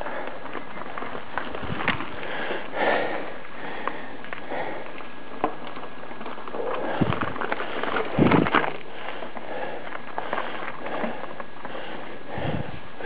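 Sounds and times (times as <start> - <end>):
bike tyres rolling on dirt: 0.0 - 13.0.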